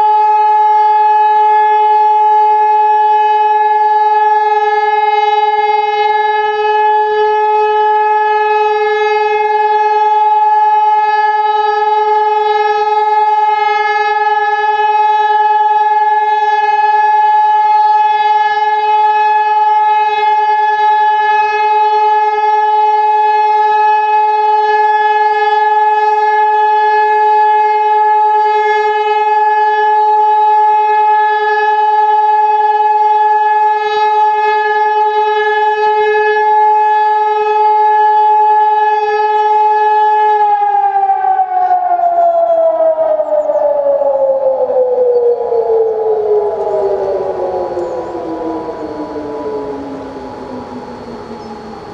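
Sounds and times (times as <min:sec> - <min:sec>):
electronic siren steady tone: 0:00.0 - 0:51.9.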